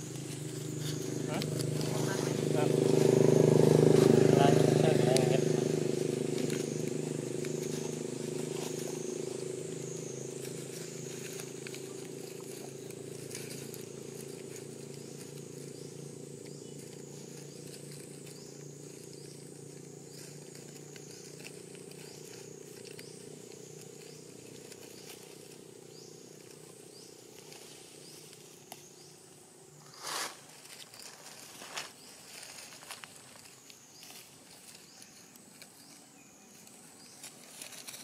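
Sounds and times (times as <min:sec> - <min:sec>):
engine hum: 0:00.0 - 0:38.0.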